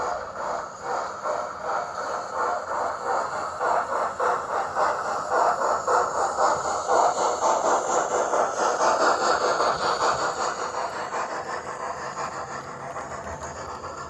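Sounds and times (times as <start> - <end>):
model train wheels clattering: 0.0 - 14.0.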